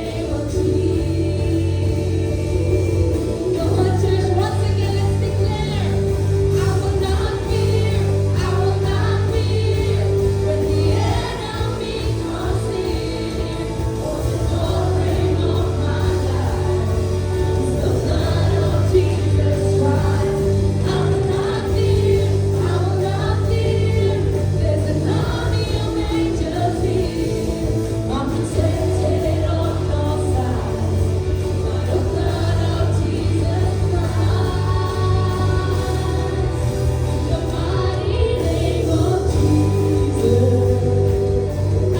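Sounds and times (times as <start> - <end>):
band playing sustained chords: 0.0 - 41.9
voices singing together: 0.0 - 41.9.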